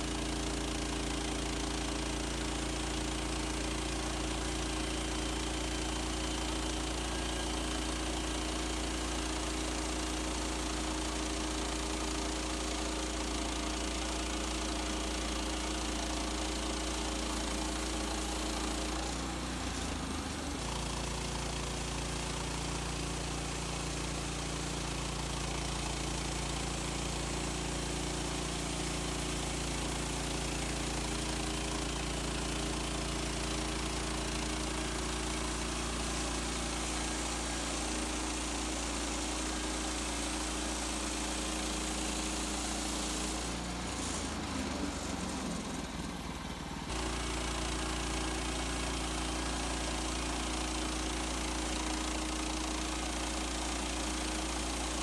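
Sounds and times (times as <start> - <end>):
sawmill gas engine running: 0.0 - 55.0.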